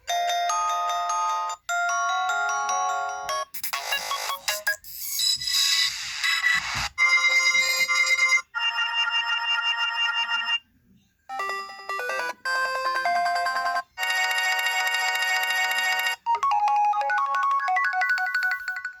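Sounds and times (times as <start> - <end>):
phone ringtone melodies: 0.0 - 5.2, 7.0 - 10.6, 11.3 - 19.0.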